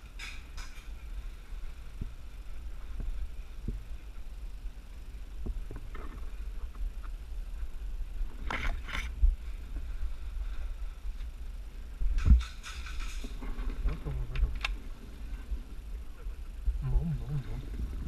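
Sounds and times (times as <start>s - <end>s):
wind rumble: 0.0s - 18.0s.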